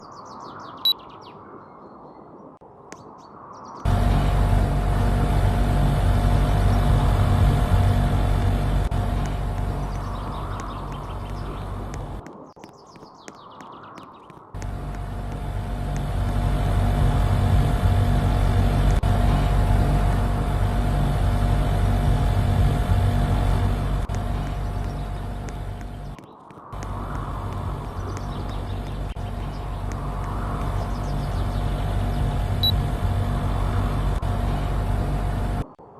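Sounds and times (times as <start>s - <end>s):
birds chirping: 0.0s - 35.7s
air conditioner fan humming: 3.9s - 12.2s, 14.6s - 26.2s, 26.8s - 35.6s.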